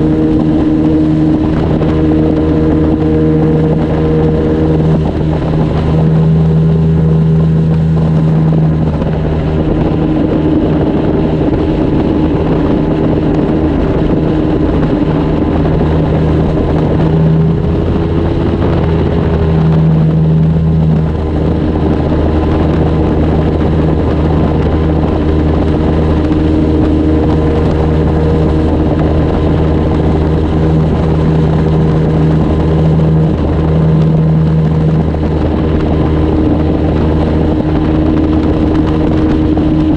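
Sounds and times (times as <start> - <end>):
outboard motor droning: 0.0 - 39.9
water noise: 0.0 - 39.9
wind: 0.0 - 39.9.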